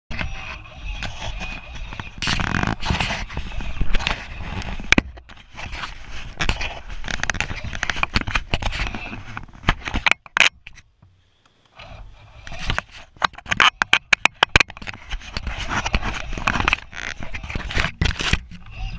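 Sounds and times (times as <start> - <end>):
camera handling scraping and rubbing: 0.1 - 10.8, 11.8 - 18.9.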